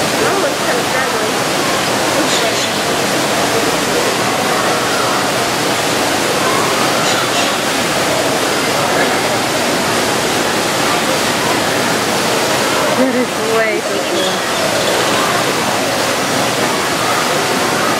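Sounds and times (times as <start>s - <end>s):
faint voices: 0.0s - 17.9s
waterfall rushing: 0.0s - 17.9s.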